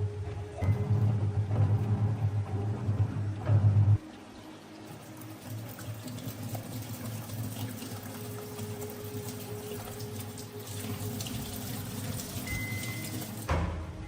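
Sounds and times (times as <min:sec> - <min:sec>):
water running: 0:00.0 - 0:13.7.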